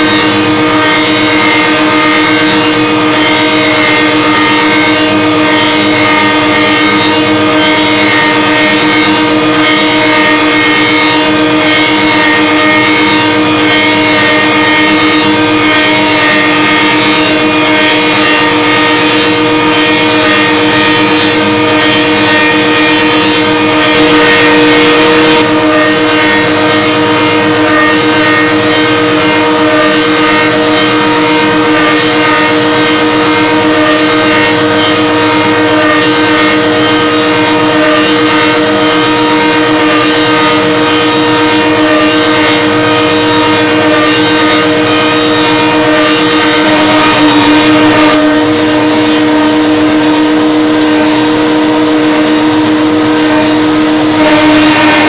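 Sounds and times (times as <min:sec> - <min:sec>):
lathe machine whine: 0:00.0 - 0:55.0.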